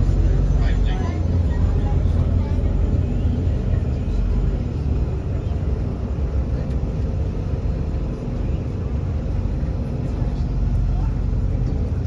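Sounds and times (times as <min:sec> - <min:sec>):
airliner engines rumbling: 0:00.0 - 0:12.0.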